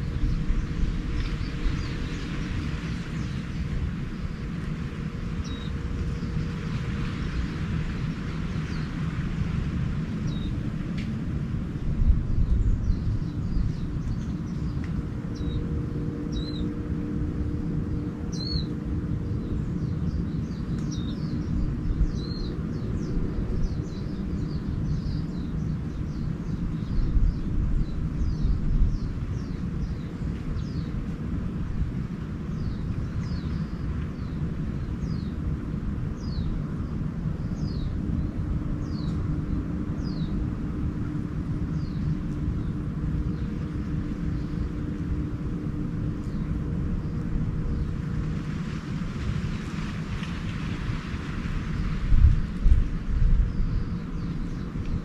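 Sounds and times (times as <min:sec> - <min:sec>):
small birds chirping: 0:00.0 - 0:09.5, 0:11.7 - 0:31.8, 0:32.4 - 0:48.2, 0:50.2 - 0:55.0
faint hum: 0:00.0 - 0:55.0
low rumble: 0:00.0 - 0:55.0.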